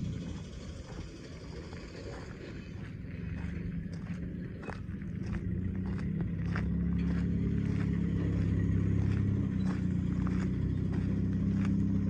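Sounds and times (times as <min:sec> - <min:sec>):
diesel engine idling: 0:00.0 - 0:12.0
footsteps on gravel: 0:02.1 - 0:12.0.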